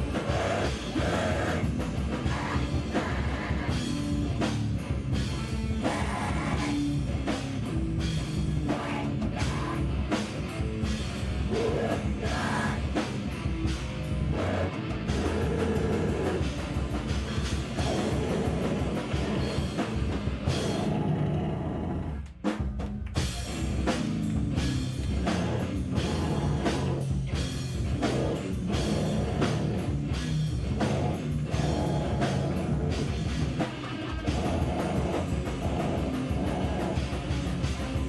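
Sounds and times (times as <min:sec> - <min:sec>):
live rock band playing: 0:00.0 - 0:21.0, 0:22.4 - 0:38.0.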